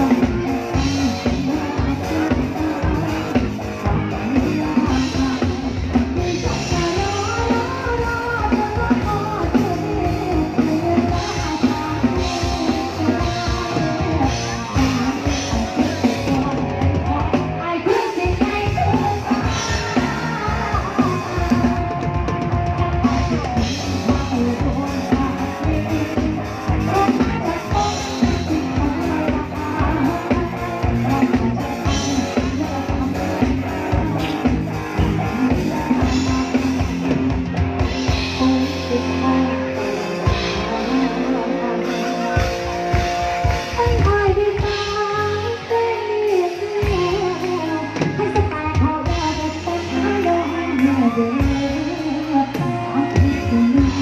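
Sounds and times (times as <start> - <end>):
drum kit: 0.0 - 54.0
electric guitar: 0.0 - 54.0
person singing: 0.0 - 54.0.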